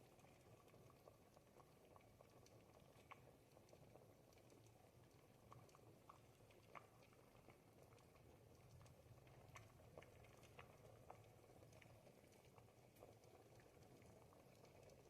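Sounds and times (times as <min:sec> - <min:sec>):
soup bubbling in a pot: 0:00.0 - 0:15.0.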